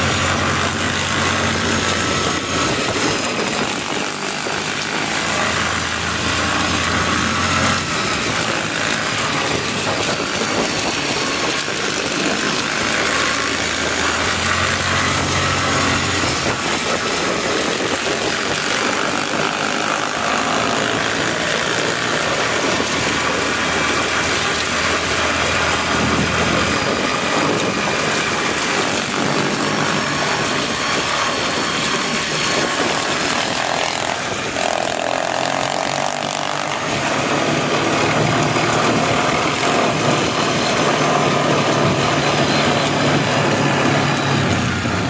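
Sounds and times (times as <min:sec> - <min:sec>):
atv engine running: 0:00.0 - 0:45.0
tyres rolling over gravel: 0:00.0 - 0:45.0
wind noise: 0:00.0 - 0:45.0.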